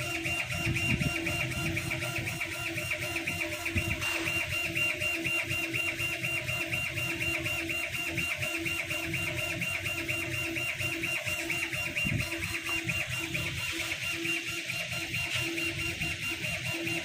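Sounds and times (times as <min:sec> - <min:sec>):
laser cutter stepper motor whine: 0:00.0 - 0:17.0.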